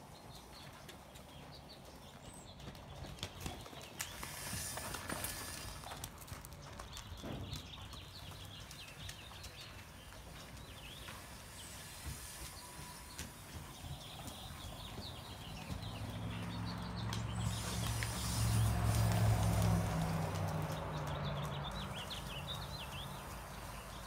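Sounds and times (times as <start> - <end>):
horse hoofbeats on sand: 0.3 - 24.0.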